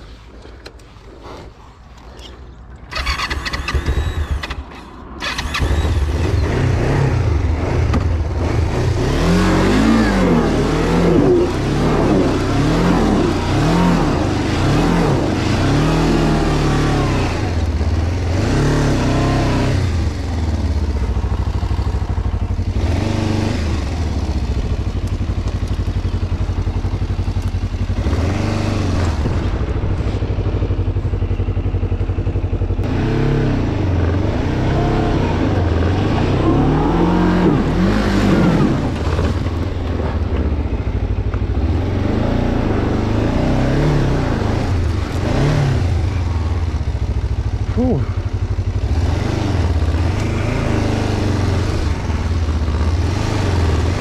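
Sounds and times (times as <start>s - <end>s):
motorcycle engine starting and revving: 0.0s - 54.0s.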